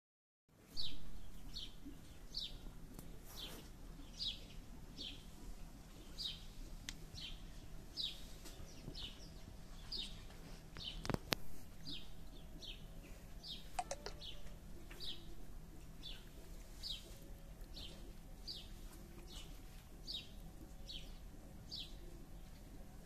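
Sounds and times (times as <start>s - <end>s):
bird chirping: 3.3s - 22.9s.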